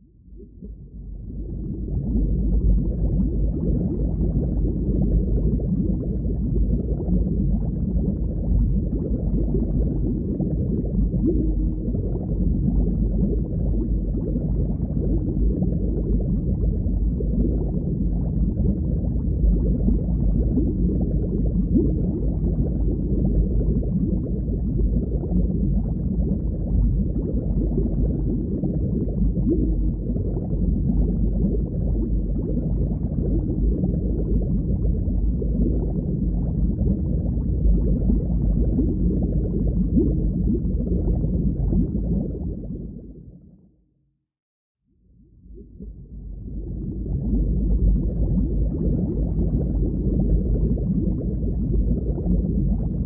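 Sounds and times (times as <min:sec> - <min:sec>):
underwater rumble of moving water: 0:00.0 - 0:53.0.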